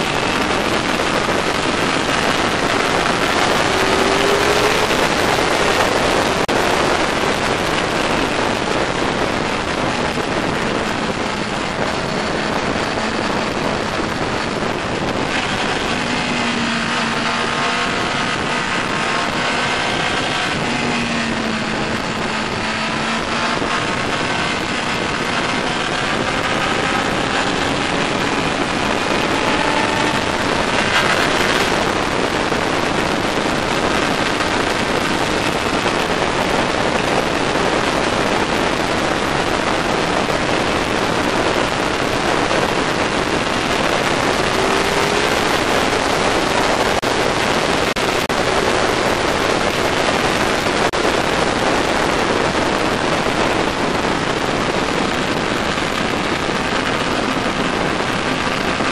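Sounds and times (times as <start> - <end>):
faint motorcycle engine: 0.0 - 58.9
wind noise rushing: 0.0 - 58.9.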